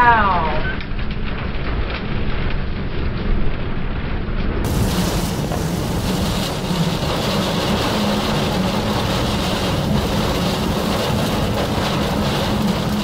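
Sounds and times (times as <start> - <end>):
tornado wind roar: 0.0 - 13.0.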